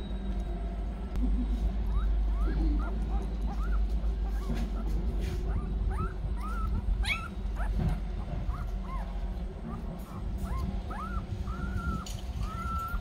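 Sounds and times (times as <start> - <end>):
low steady rumble: 0.0 - 13.0
puppies squeaking and whimpering: 1.1 - 13.0.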